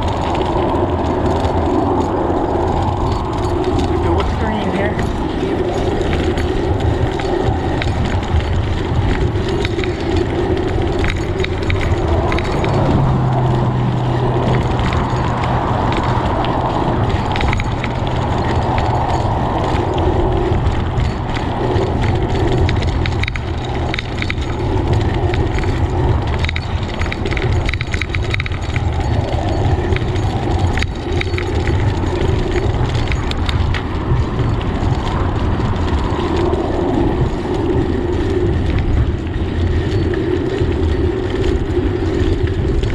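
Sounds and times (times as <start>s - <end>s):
bicycle tyres rumbling on road: 0.0s - 42.9s
low steady hum: 0.0s - 42.9s
wind buffeting microphone: 0.0s - 42.9s.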